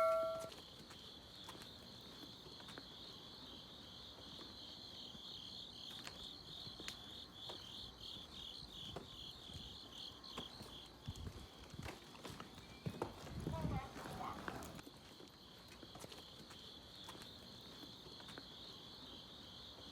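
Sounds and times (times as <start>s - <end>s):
crickets chirping: 0.0s - 12.0s, 12.6s - 19.9s.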